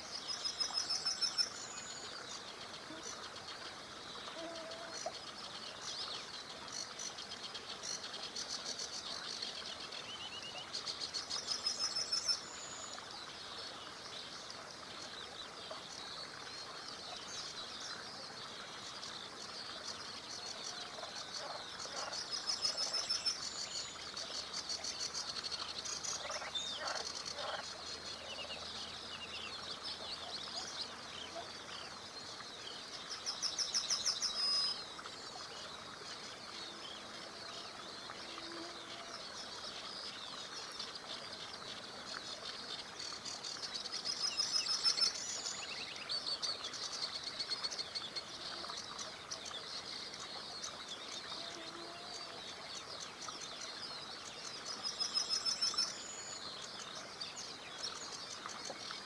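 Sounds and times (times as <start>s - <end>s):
bird song of repeated notes: 0.0s - 59.0s
small river rushing: 0.0s - 59.0s
songbirds singing: 0.0s - 59.0s.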